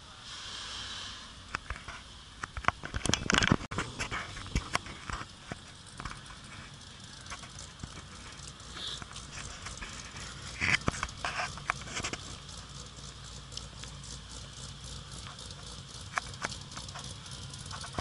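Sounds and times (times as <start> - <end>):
low engine hum: 0.0 - 18.0
car rattling over cracked pavement: 1.6 - 18.0.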